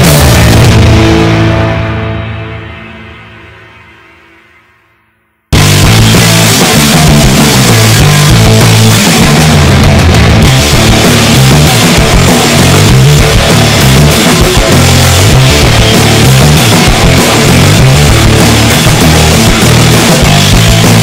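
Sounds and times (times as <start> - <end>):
loud rock music: 0.0 - 4.9, 5.5 - 21.0.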